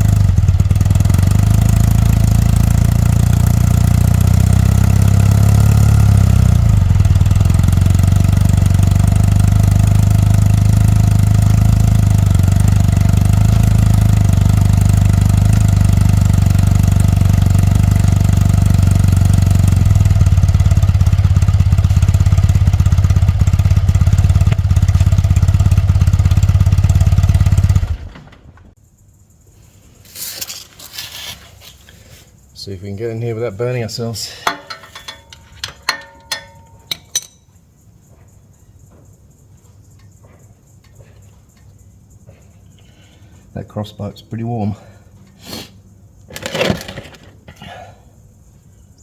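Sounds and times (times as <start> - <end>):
motorcycle engine idling: 0.0 - 29.2, 33.2 - 43.5.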